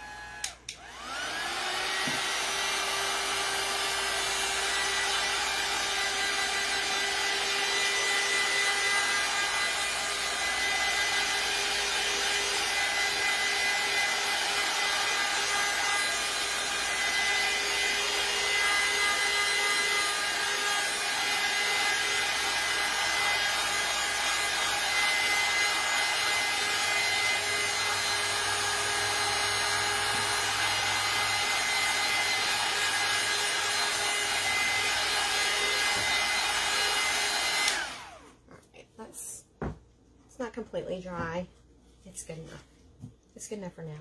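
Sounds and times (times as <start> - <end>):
heat tool fan whining: 0.0 - 38.4.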